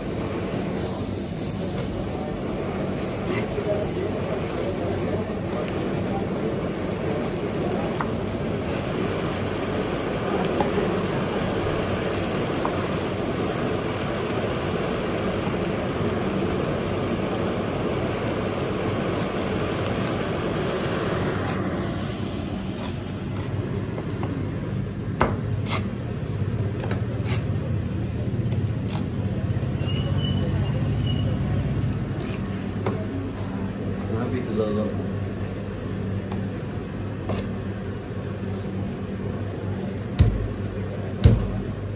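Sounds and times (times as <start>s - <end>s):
gas burner flame rushing: 0.0s - 41.9s.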